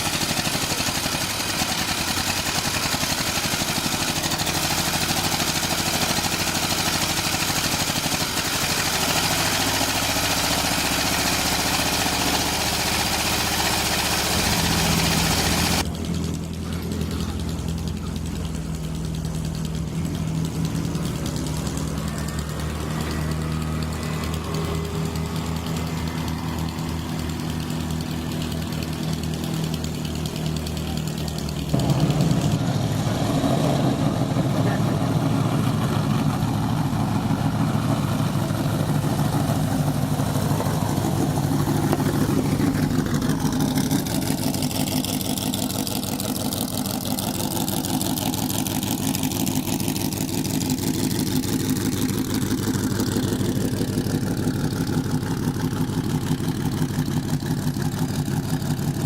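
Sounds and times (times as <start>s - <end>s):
race car engines idling: 0.0s - 59.0s.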